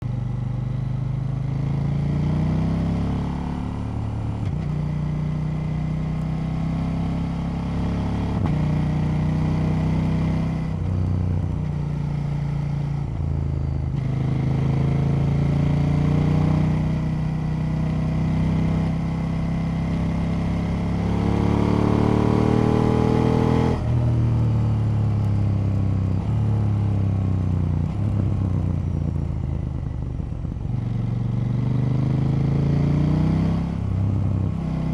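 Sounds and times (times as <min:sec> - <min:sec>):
motorcycle engine revving: 0:00.3 - 0:34.9.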